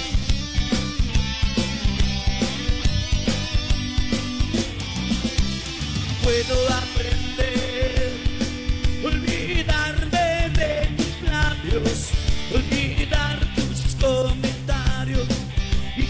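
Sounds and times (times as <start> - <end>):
bass: 0.0 - 16.0
distorted electric guitars: 0.0 - 16.0
drums steady beat: 0.0 - 16.0.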